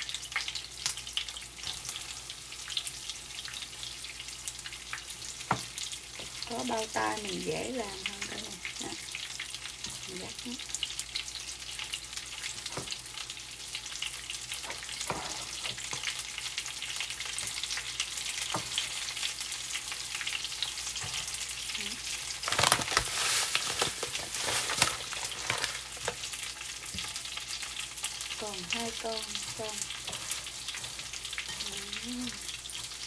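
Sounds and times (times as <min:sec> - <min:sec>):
oil sizzling and crackling: 0:00.0 - 0:33.0.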